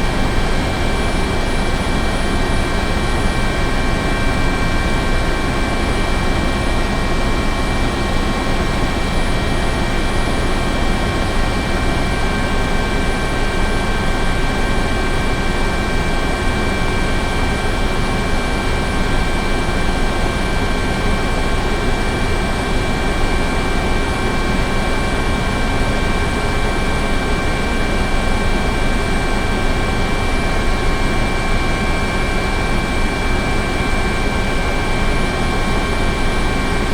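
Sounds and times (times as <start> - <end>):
helicopter engine and rotor noise: 0.0 - 36.9
high-pitched turbine whines: 0.0 - 36.9.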